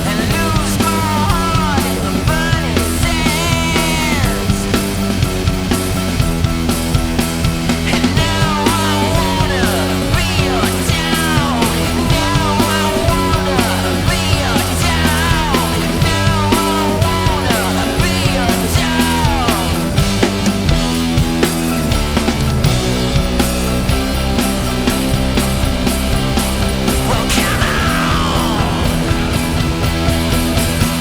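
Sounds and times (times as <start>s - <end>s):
bass: 0.0s - 31.0s
drum beat: 0.0s - 31.0s
guitar: 0.0s - 31.0s.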